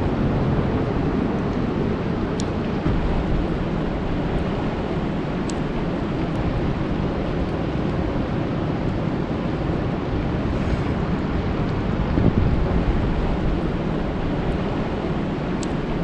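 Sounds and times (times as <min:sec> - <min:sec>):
rain falling on a lake: 0:00.2 - 0:10.4, 0:11.0 - 0:16.0.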